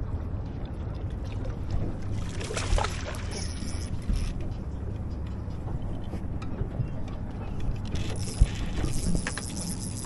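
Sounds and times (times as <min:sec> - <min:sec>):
water splashing beside boat: 0:00.0 - 0:10.0.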